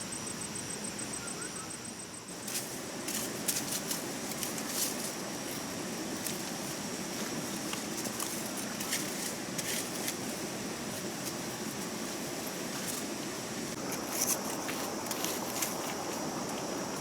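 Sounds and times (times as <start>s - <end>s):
stream water running: 2.3s - 17.0s.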